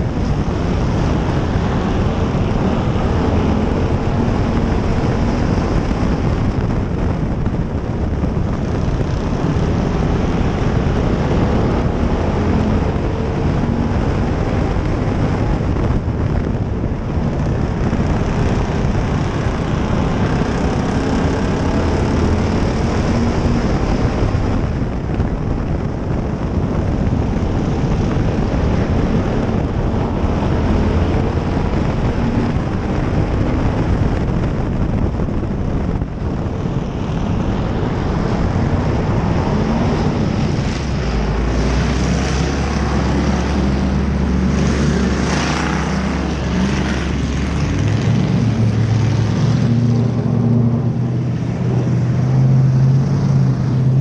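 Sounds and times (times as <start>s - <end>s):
race car engine at speed: 0.0s - 54.0s.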